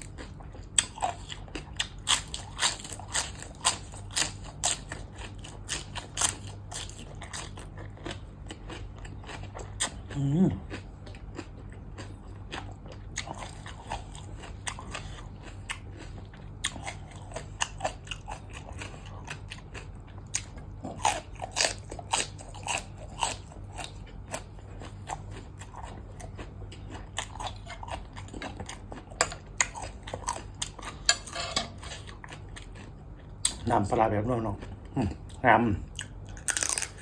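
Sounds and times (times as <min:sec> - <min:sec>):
faint low hum: 0:00.0 - 0:37.0
person chewing crunchy food: 0:00.0 - 0:37.0.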